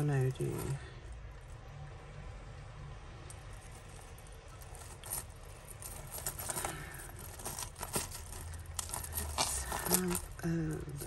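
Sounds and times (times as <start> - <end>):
necklace chains clinking: 0.0 - 1.3, 3.2 - 11.0.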